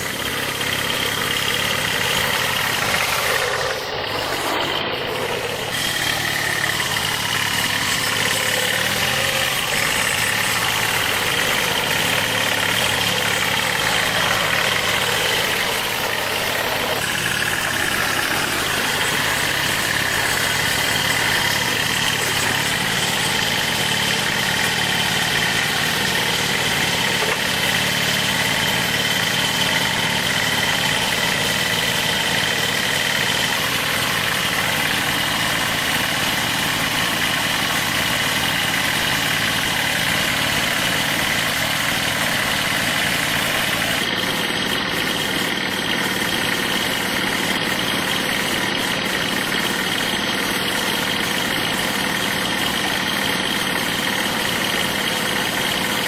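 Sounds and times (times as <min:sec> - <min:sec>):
engine running with whine: 0:00.0 - 0:56.0.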